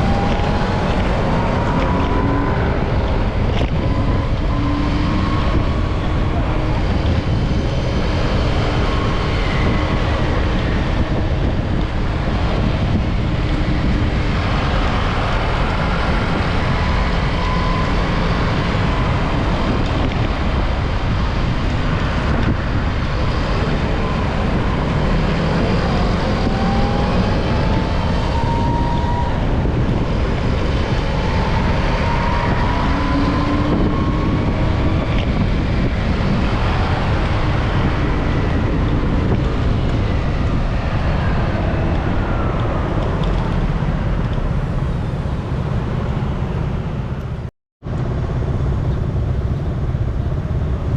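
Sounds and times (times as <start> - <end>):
faint rising engine whines: 0.0 - 47.4
traffic: 0.0 - 50.9
wind rushing over microphone: 0.0 - 50.9.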